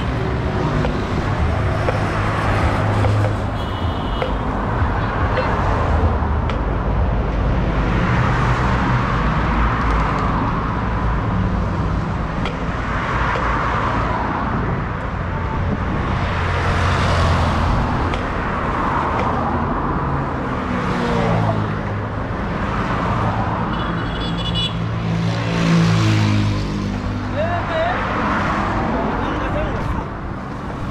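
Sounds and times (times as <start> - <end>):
highway traffic rumble: 0.0 - 30.9.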